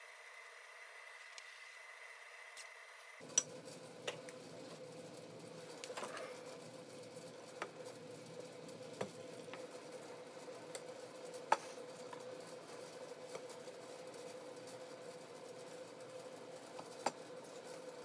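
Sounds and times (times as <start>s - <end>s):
steady faint hum: 0.0s - 18.0s.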